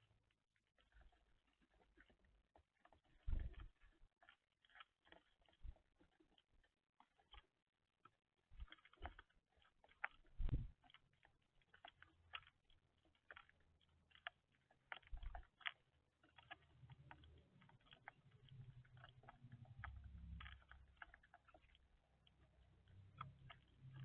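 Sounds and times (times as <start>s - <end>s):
birds pecking at seed: 0.0s - 24.0s.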